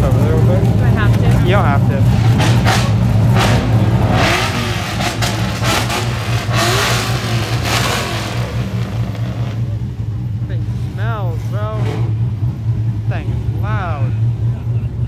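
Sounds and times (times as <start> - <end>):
car engines revving: 0.0 - 15.0
low rumble: 0.0 - 15.0.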